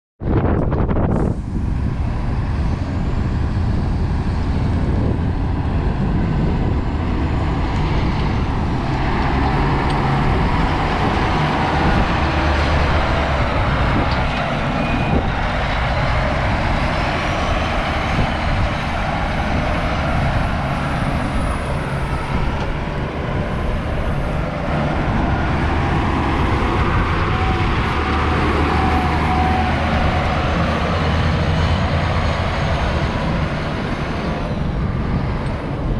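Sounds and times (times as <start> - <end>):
diesel engine running: 1.1 - 35.9.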